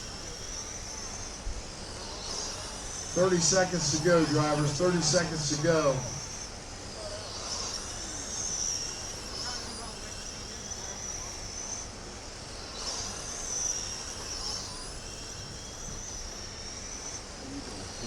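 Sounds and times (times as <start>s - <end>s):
electric toy truck motors whining: 0.0s - 18.0s.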